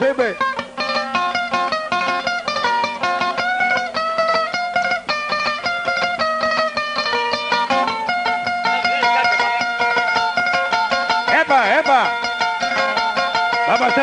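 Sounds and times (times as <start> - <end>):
small guitar plucked notes: 0.0 - 14.0.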